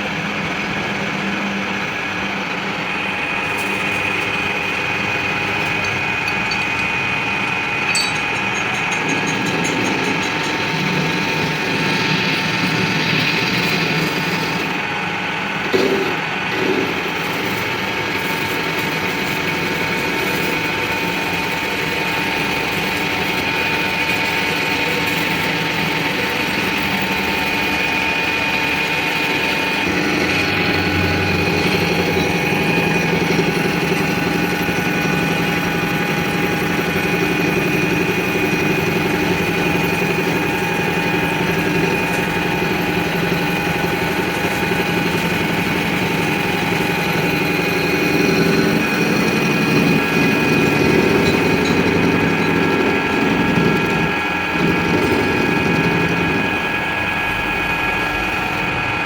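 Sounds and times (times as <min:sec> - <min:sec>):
machine motor humming: 0:00.1 - 0:18.8, 0:26.7 - 0:59.0.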